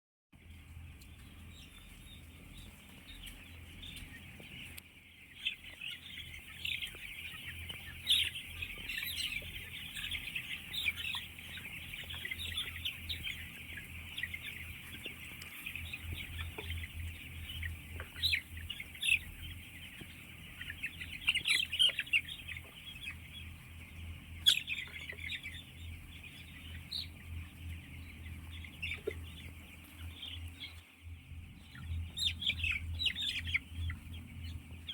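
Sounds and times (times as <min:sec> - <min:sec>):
chicks peeping in chorus: 0:00.4 - 0:34.9
steady low hum: 0:00.4 - 0:34.9.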